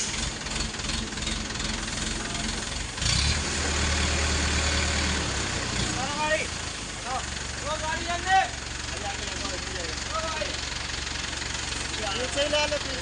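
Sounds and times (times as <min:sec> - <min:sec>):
crane engine revving: 0:00.0 - 0:13.0.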